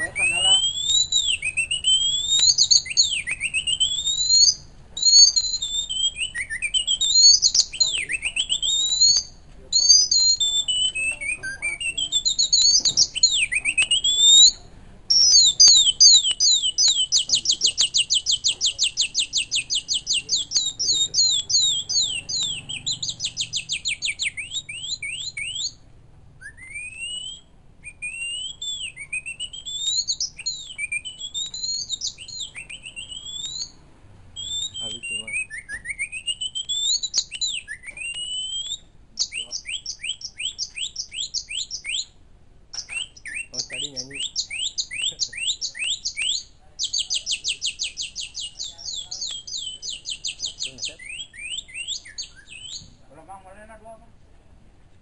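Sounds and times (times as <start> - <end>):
bird-call whistle: 0.0 - 33.8, 34.4 - 53.1.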